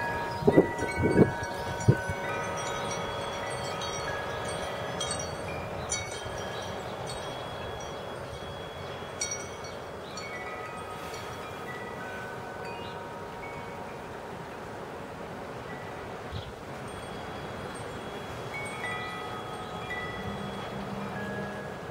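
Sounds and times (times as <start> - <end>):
wind chimes ringing: 0.0 - 21.9.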